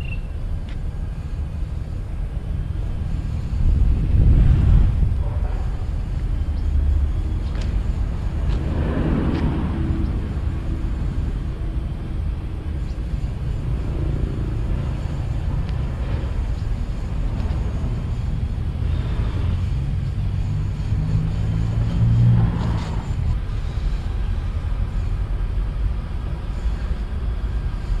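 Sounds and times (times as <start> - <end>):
low rumble of engines: 0.0 - 28.0.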